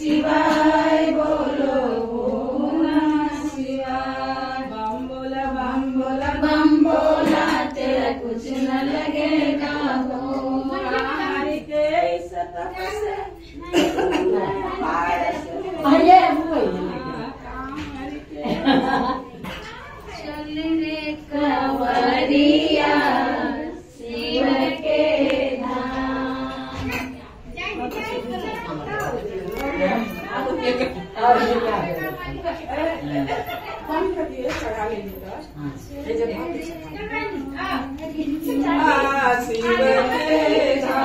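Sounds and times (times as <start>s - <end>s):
women chanting: 0.0s - 19.5s, 20.1s - 27.4s, 28.2s - 41.0s
women singing devotional song: 0.0s - 41.0s.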